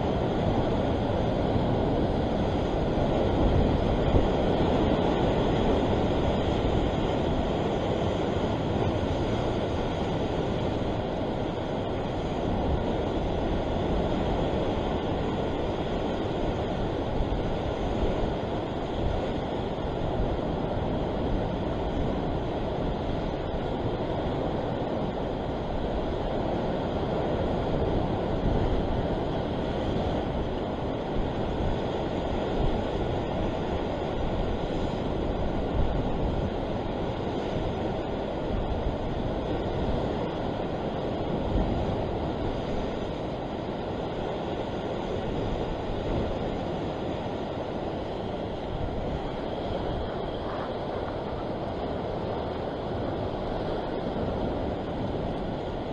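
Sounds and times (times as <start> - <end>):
surf washing over rocks: 0.0 - 55.9
wind buffeting microphone: 0.0 - 55.9.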